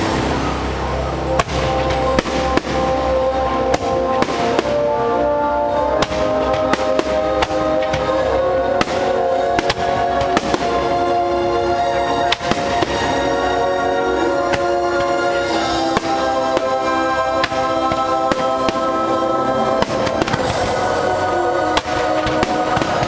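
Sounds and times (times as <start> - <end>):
fireworks bursting with sharp bangs: 0.0 - 23.0
loud music: 0.0 - 23.0.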